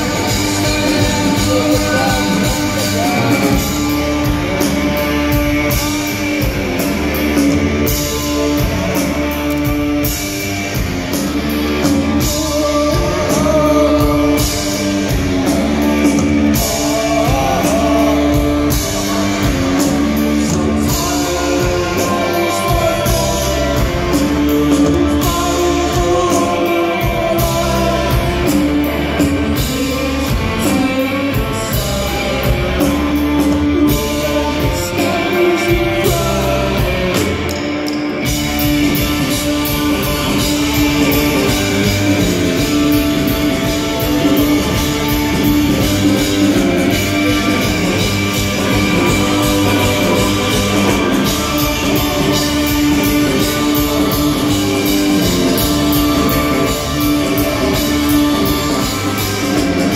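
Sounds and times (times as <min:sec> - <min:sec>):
live rock band playing: 0:00.0 - 0:59.9
person singing: 0:00.0 - 0:59.9.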